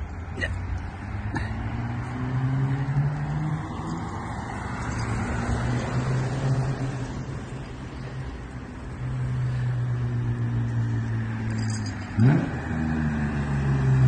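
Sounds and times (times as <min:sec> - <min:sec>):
car engine through loud exhaust: 0:00.0 - 0:14.0.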